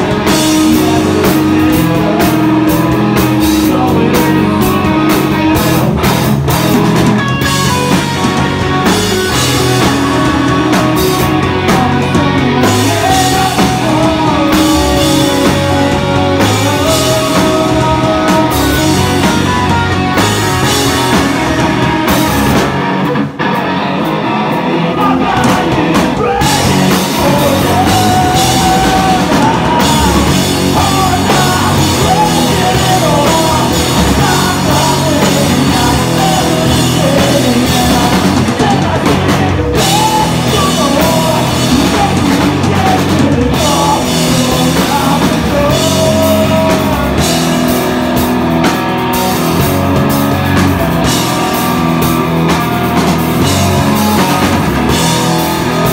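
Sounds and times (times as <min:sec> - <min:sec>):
person singing: 0:00.0 - 0:06.1, 0:07.4 - 0:21.9, 0:24.8 - 0:48.2, 0:52.4 - 0:55.9
rock band playing: 0:00.0 - 0:55.9.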